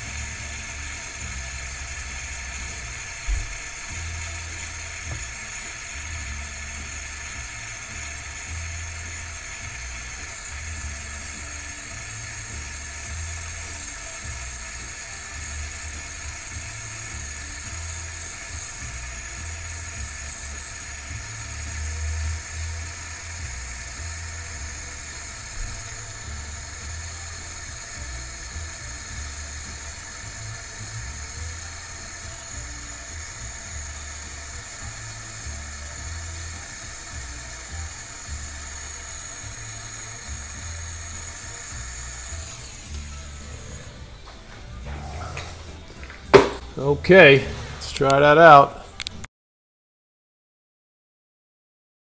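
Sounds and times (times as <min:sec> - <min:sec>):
torch flame hissing: 0:00.0 - 0:49.3.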